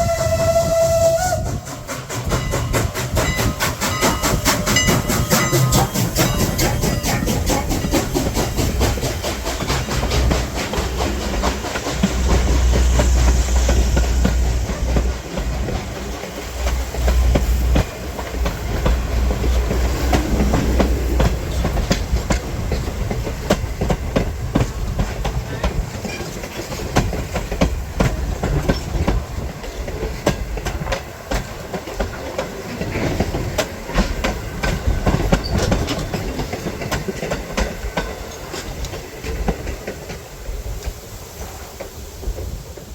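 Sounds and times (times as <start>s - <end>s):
low train rumble: 0.0s - 42.9s
train wheels clicking over rail joints: 0.0s - 42.9s.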